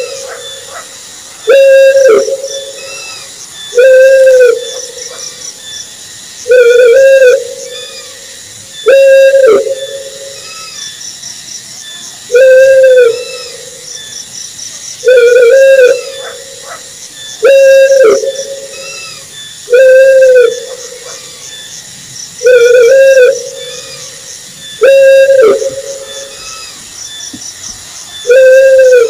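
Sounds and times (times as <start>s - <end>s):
owl hooting: 0.0s - 5.4s, 6.4s - 10.9s, 12.3s - 14.2s, 15.0s - 21.7s, 22.4s - 27.2s, 28.2s - 29.0s
insects chirring: 0.0s - 29.0s.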